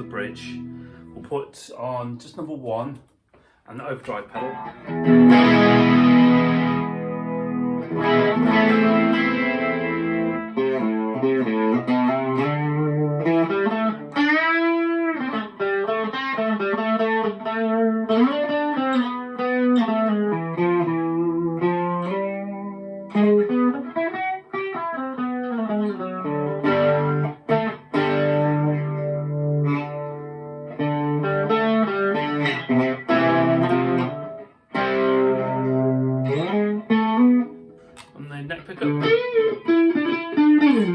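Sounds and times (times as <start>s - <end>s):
electric guitar with chorus: 0.0s - 1.3s, 4.3s - 40.9s.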